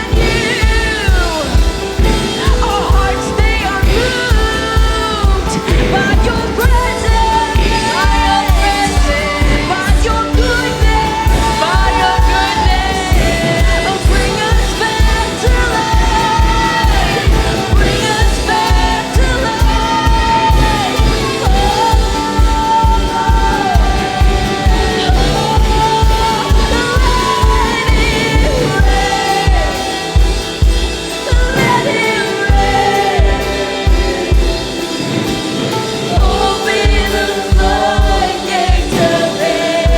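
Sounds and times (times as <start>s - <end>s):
band with bass drum beat: 0.0s - 39.9s
people singing: 0.0s - 39.9s.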